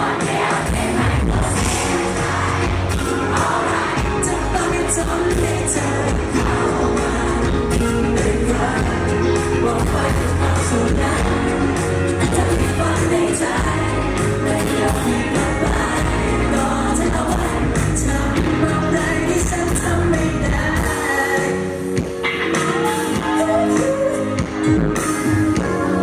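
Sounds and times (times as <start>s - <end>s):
bass line: 0.0s - 21.5s
drums: 0.0s - 26.0s
person singing: 0.0s - 26.0s
pop band playing: 0.0s - 26.0s.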